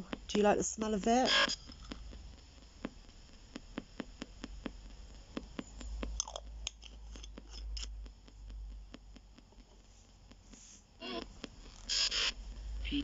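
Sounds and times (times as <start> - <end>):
snatch of radio sound: 0.0 - 6.2, 7.0 - 13.0
quick steady clicks: 0.0 - 12.9
faint radio static: 0.0 - 13.0
static crackles: 0.0 - 13.0.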